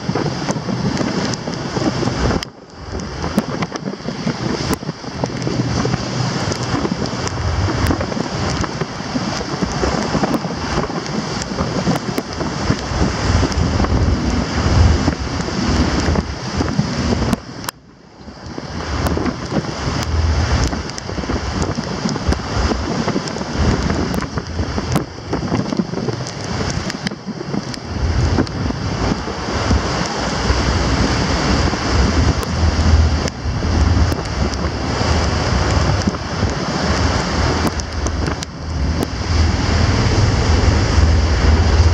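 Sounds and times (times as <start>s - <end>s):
seawater rushing along hull: 0.0s - 41.9s
wind buffeting microphone: 0.0s - 41.9s.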